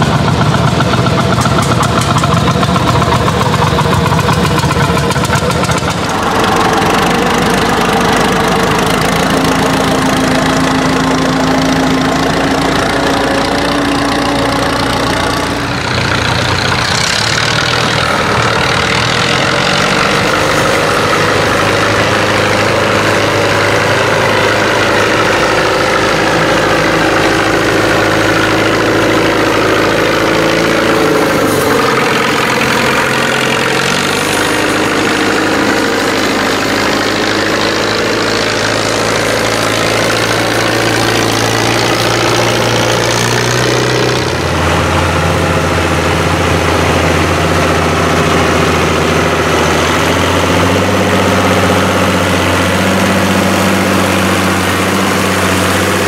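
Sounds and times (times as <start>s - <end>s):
diesel engine under load: 0.0s - 56.0s
tractor engine running: 0.0s - 56.0s.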